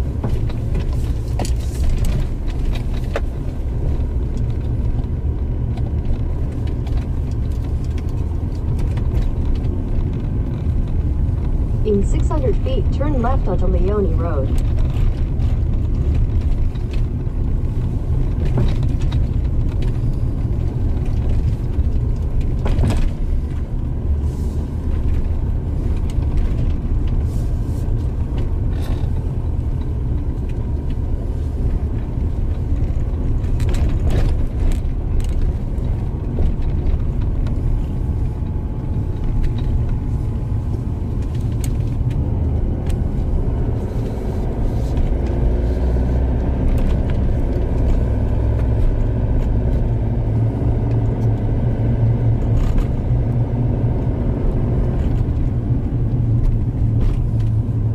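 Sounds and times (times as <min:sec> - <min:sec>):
car driving on dirt road: 0:00.0 - 0:57.9.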